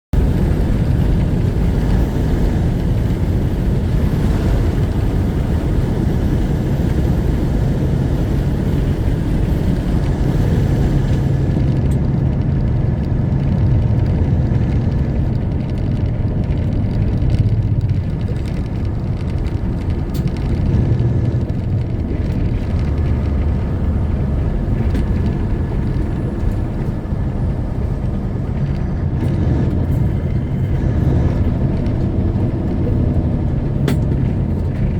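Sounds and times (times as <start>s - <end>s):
diesel truck engine rumble: 0.1s - 34.9s
tyre and road noise: 0.1s - 34.9s.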